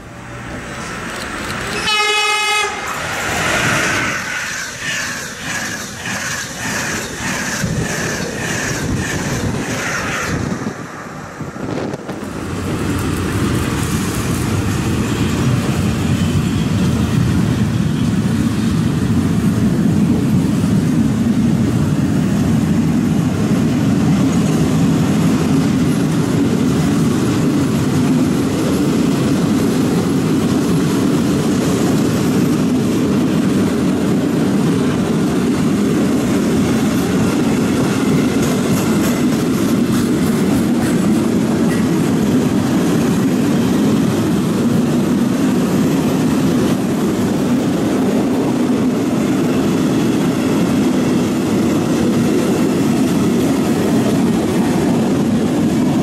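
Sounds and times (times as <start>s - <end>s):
freight train rumbling past: 0.0s - 56.0s
ringing rail noise: 0.0s - 56.0s
train passing at speed: 0.0s - 56.0s.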